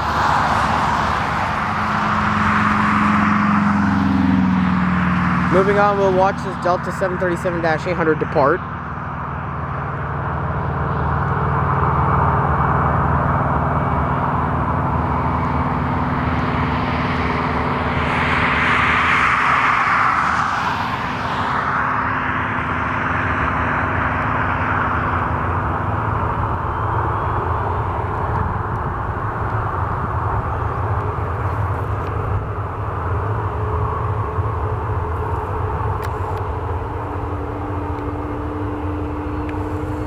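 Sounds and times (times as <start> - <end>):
jet engines at takeoff: 0.0 - 40.0.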